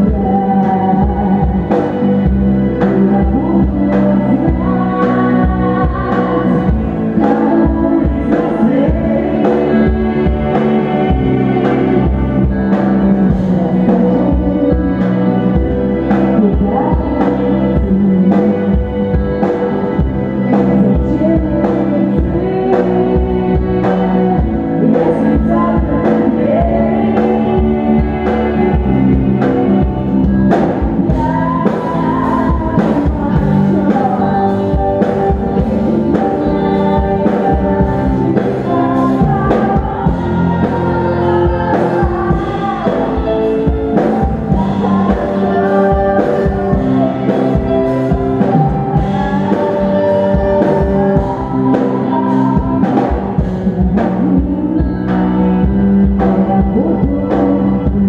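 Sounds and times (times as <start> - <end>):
bass guitar: 0.0 - 58.0
drum kit: 0.0 - 58.0
electric guitars: 0.0 - 58.0
keyboard: 0.0 - 58.0
person singing: 0.0 - 58.0.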